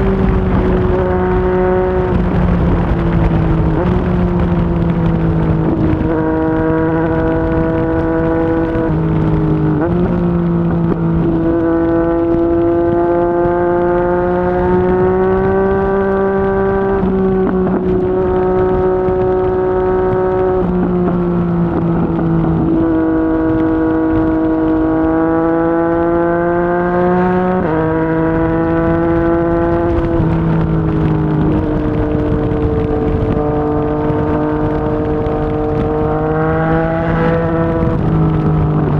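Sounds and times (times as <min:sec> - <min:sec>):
motorcycle engine while riding: 0:00.0 - 0:38.9
wind and road noise: 0:00.0 - 0:38.9.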